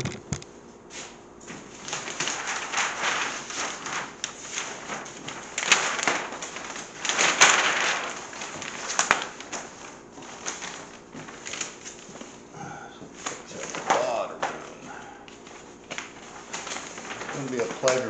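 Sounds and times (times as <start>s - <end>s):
paper rustling and crinkling: 0.0s - 18.0s
paper snapping: 1.5s - 12.3s, 13.2s - 18.0s.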